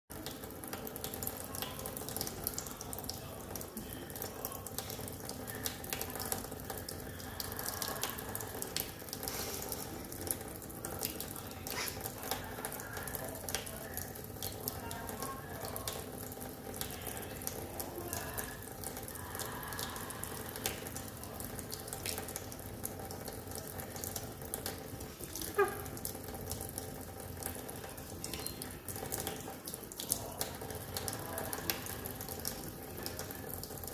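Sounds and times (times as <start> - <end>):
tap water running into a sink: 0.1 - 33.9
water splattering: 0.1 - 33.9.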